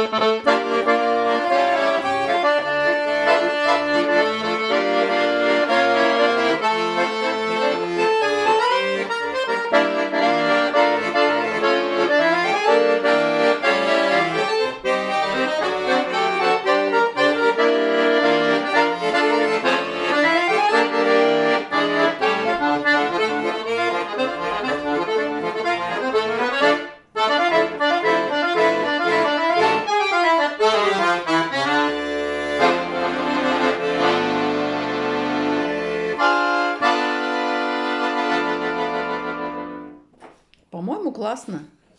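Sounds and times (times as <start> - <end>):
lively accordion tune: 0.0 - 40.1.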